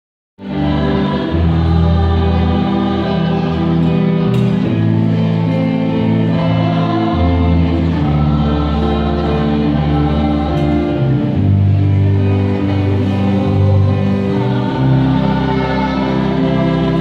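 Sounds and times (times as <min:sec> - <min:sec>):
choir singing a hymn: 0:00.4 - 0:17.0
instrumental accompaniment: 0:00.4 - 0:17.0.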